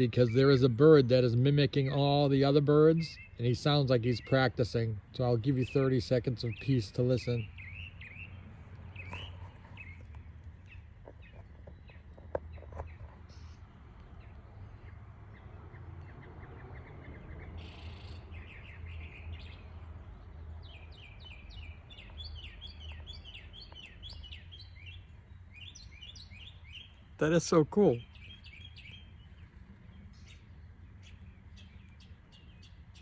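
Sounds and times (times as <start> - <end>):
songbird singing varied phrases: 0.0 - 33.0.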